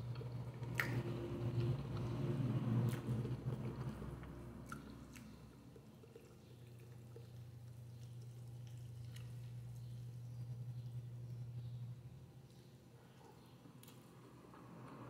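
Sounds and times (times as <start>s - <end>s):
steady low hum: 0.0s - 15.0s
faint chewing: 0.1s - 15.0s.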